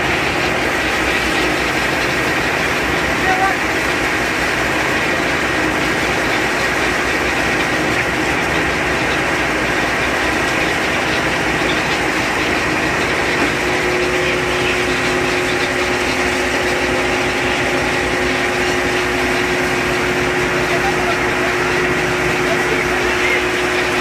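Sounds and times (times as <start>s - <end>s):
boat machinery drone: 0.0s - 24.0s.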